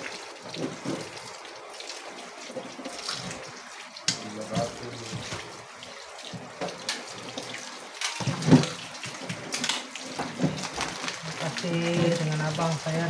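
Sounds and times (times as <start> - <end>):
tap running into a sink: 0.0 - 1.4, 2.5 - 13.0
chicken rinsed by hand: 0.0 - 13.0.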